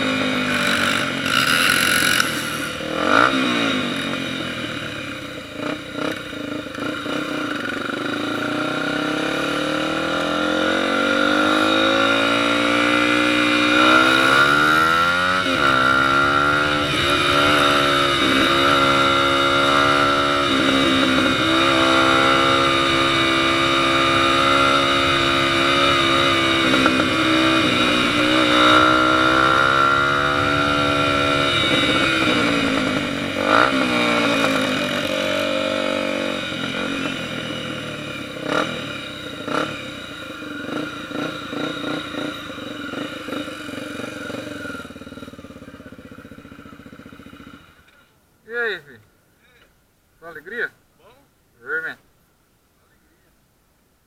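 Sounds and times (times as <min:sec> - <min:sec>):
motorcycle engine revving: 0:00.0 - 0:48.1.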